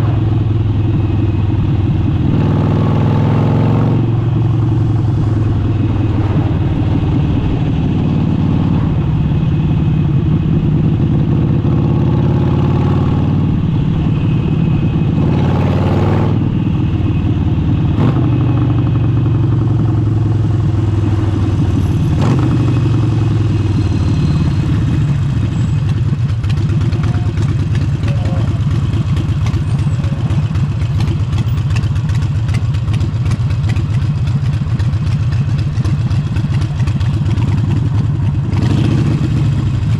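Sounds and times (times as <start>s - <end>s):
motorcycle exhaust note: 0.0s - 39.9s.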